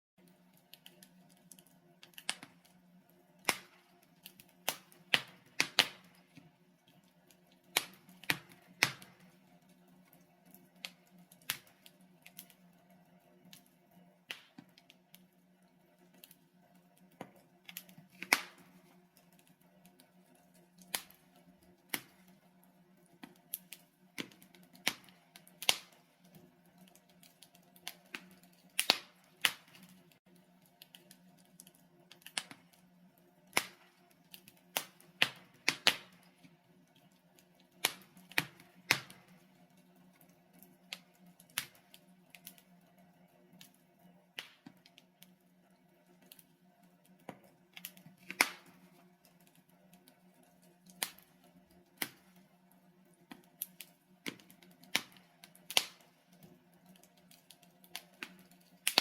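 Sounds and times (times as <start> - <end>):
logs crackling and popping: 0.2 - 59.0.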